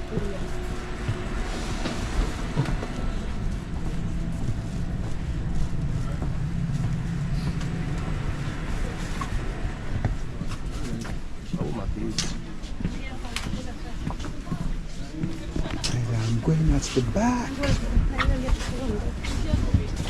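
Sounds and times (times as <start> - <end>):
train carriage rumble: 0.0 - 20.0.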